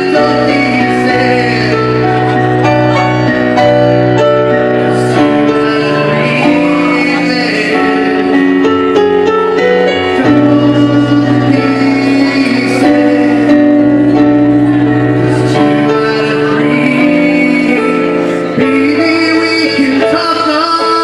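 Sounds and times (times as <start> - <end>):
electronic keyboard: 0.0 - 21.0
man singing into a microphone: 0.0 - 21.0.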